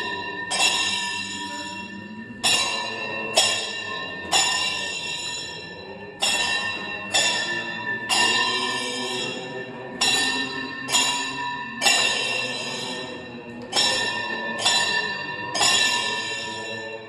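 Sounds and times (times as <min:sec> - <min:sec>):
metal bell ringing: 0:00.0 - 0:17.0.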